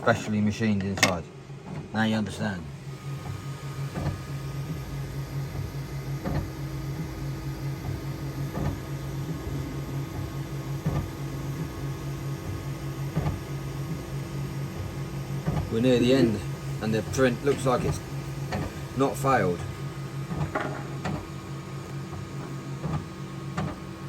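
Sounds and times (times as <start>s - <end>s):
printer stepper motors humming: 0.0s - 24.0s.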